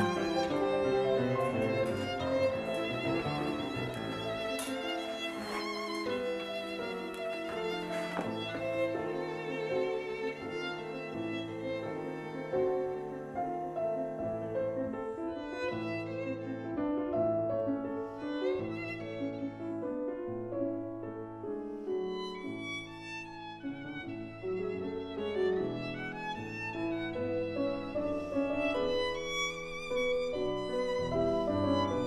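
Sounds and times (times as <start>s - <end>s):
slow string melody: 0.0s - 20.5s, 21.5s - 32.0s.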